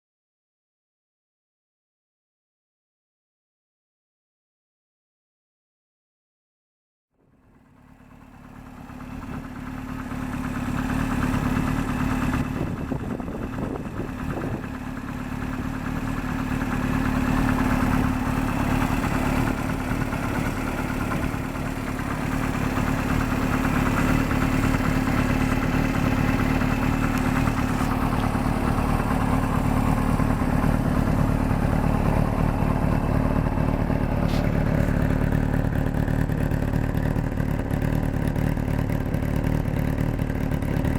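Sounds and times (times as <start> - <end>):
motorcycle engine idling: 7.2 - 40.9.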